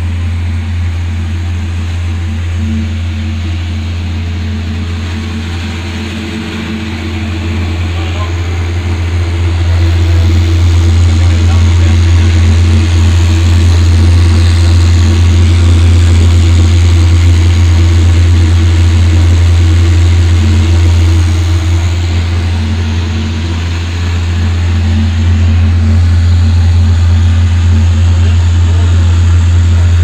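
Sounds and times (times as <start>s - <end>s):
boiler burner droning: 0.0s - 30.0s.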